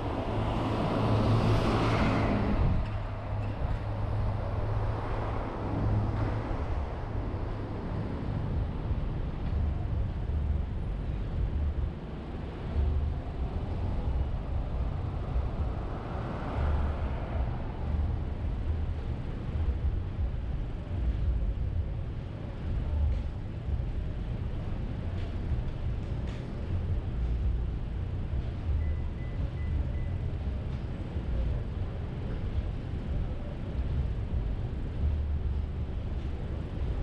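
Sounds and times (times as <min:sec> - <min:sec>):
street traffic noise: 0:00.0 - 0:37.0
wind rumble on microphone: 0:00.0 - 0:37.0.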